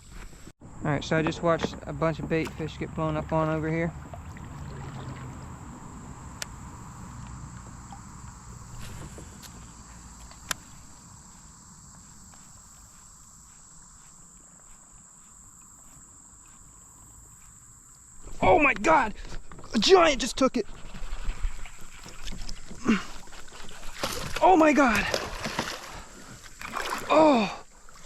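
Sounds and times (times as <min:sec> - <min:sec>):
high-pitched insect drone: 0:02.0 - 0:28.0.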